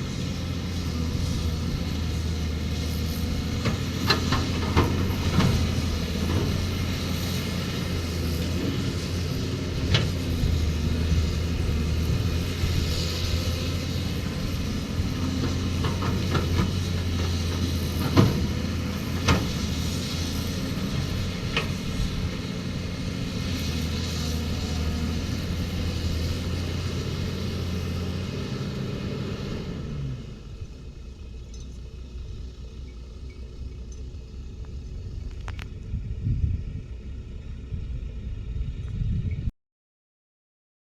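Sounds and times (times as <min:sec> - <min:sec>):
excavator diesel engine running: 0:00.0 - 0:39.5.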